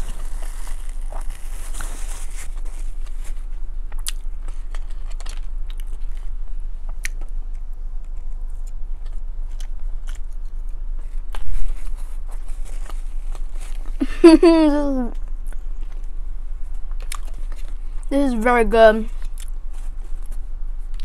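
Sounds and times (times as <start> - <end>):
close chewing: 0.0 - 14.0, 15.1 - 18.1
low steady hum: 0.0 - 21.0.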